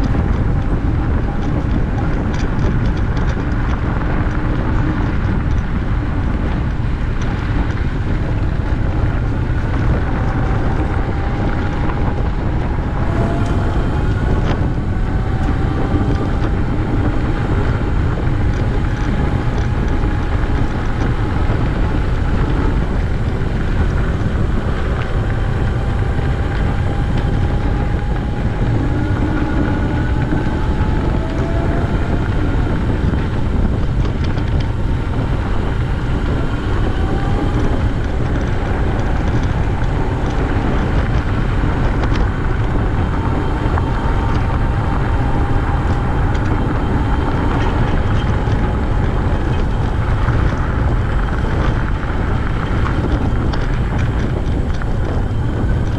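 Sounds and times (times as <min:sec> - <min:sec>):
bicycle rolling noise: 0:00.0 - 0:55.9
wind on microphone: 0:00.0 - 0:55.9.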